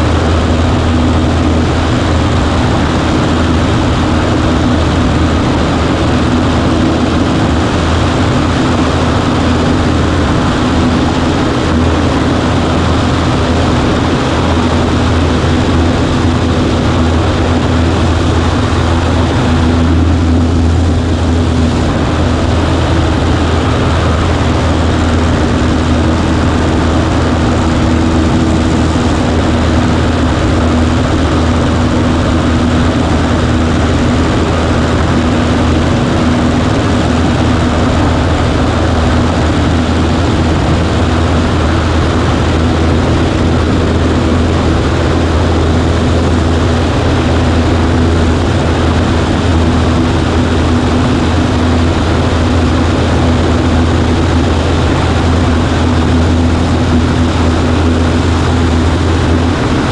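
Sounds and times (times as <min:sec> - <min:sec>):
propeller engine droning: 0:00.0 - 0:59.9.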